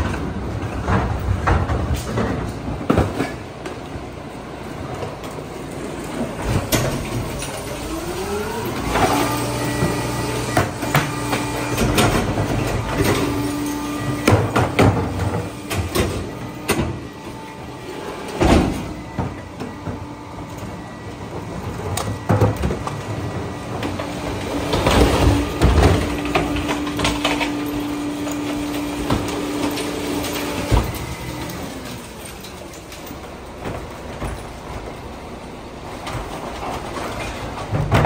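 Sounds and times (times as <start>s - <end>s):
plastic carts banging on hopper: 0.0s - 3.7s, 6.0s - 20.8s, 21.4s - 35.1s, 35.9s - 38.0s
hydraulic packer hum: 0.0s - 38.0s.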